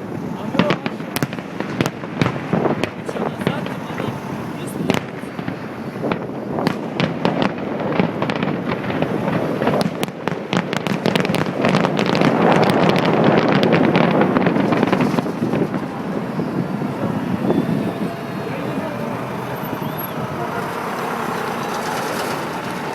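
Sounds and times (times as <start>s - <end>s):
fireworks bangs and crackling: 0.0s - 22.9s.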